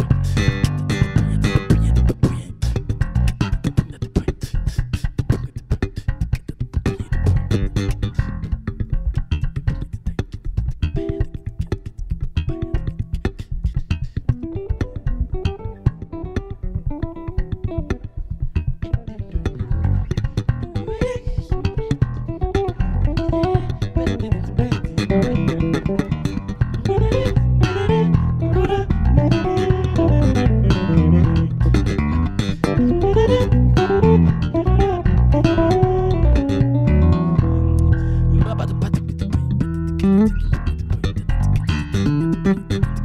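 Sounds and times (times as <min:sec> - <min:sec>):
electric bass guitar duet: 0:00.0 - 0:43.0.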